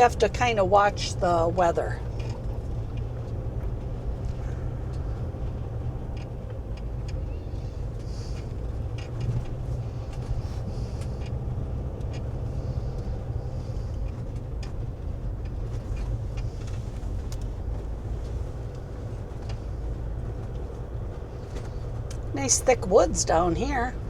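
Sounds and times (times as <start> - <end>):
engine and road rumble: 0.0 - 24.0
light clicks and rattles: 2.0 - 24.0.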